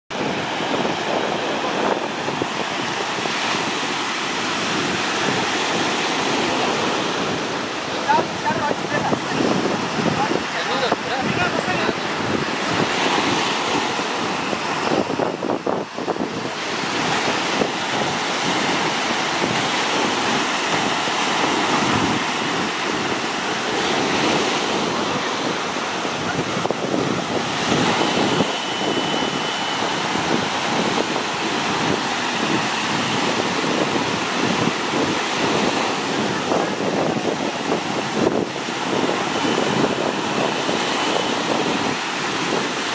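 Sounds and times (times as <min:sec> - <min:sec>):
sea surf breaking: 0:00.1 - 0:42.9
wind buffeting microphone: 0:00.1 - 0:42.9.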